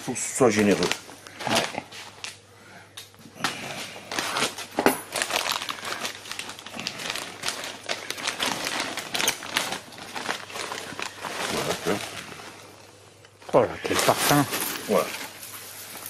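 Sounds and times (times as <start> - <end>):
plastic bag crinkling: 0.2 - 2.3, 4.0 - 16.0.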